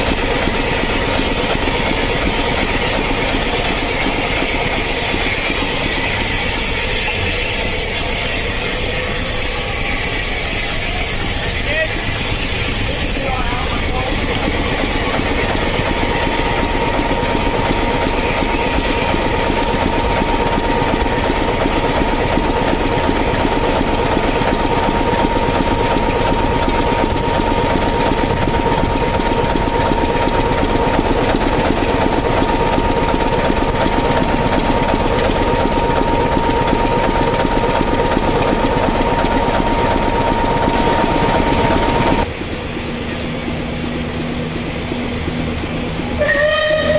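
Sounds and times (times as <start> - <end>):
high whine: 0.0 - 46.9
locomotive running: 0.0 - 46.9.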